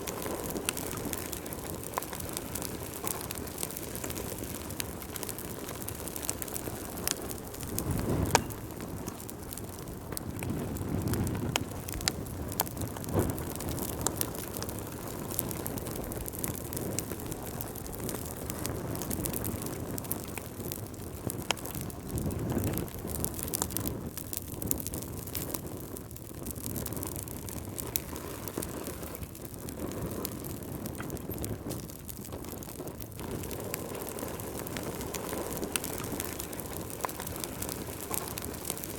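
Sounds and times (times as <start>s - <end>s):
wood fire crackling in fireplace: 0.0s - 38.9s.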